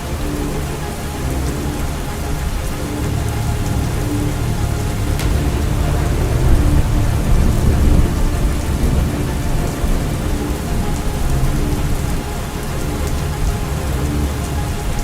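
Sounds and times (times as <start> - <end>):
heavy rain: 0.0 - 15.0
low thunder rumble: 0.0 - 15.0.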